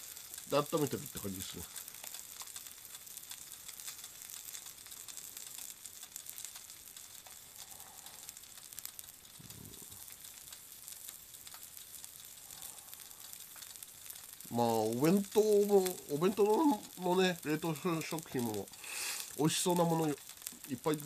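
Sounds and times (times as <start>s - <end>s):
chicken sizzling on hot plate: 0.0s - 21.0s.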